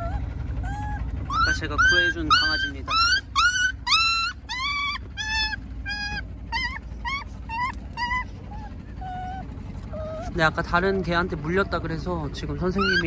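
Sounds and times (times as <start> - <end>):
puppy whimpering: 0.0 - 13.0.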